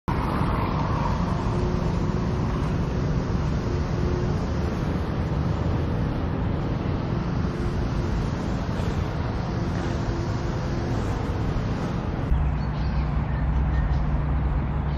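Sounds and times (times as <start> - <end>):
road traffic rumble: 0.1 - 14.9.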